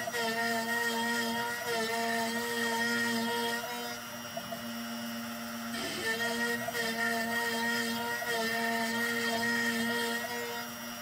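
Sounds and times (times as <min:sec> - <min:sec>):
motors whining: 0:00.0 - 0:11.0
router spindle humming: 0:00.0 - 0:11.0.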